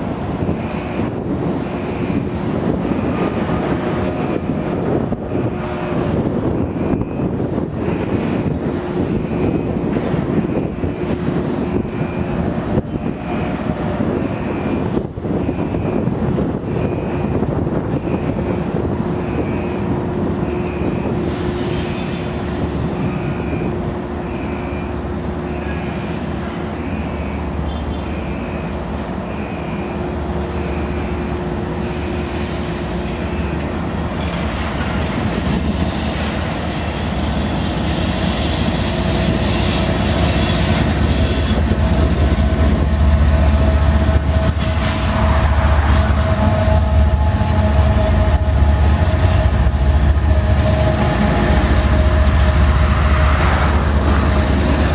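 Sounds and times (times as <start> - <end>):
diesel locomotive approaching: 0.0 - 54.9
road and wind rumble: 0.0 - 54.9.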